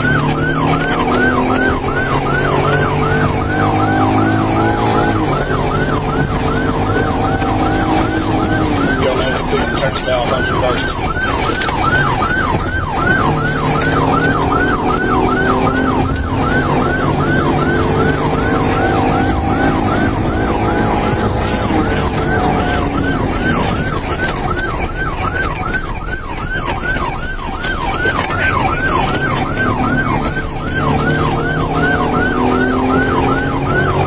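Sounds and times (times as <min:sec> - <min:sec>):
car engine and road noise: 0:00.0 - 0:34.0
police siren yelping: 0:00.0 - 0:34.0.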